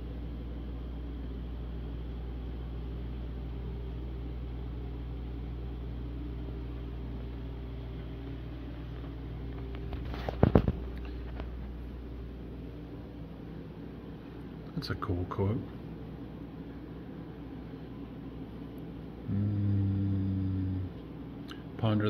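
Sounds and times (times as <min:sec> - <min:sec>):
low indoor hum: 0:00.0 - 0:22.0.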